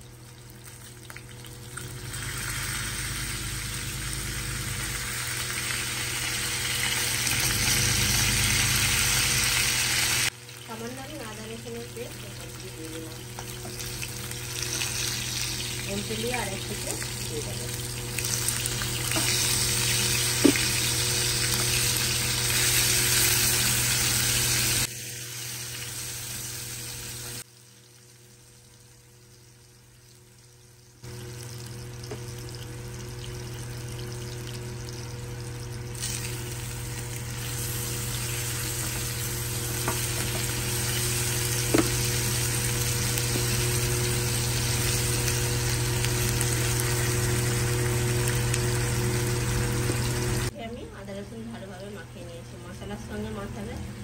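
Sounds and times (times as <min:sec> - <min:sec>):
fish sizzling in hot oil: 0:00.0 - 0:50.5.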